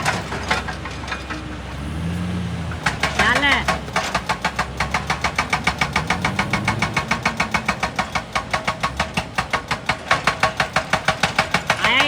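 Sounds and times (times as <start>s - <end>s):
engine knocking steadily: 0.0s - 12.0s.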